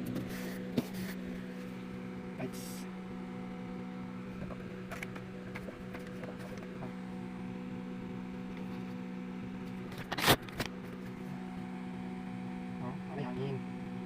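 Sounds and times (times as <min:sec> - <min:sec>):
electric fan motor humming: 0:00.0 - 0:14.0.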